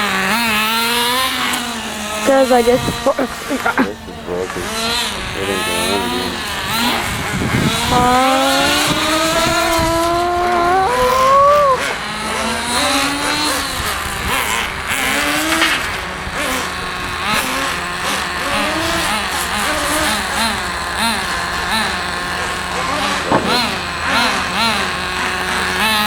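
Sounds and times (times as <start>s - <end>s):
small nitro engine revving: 0.0s - 26.0s.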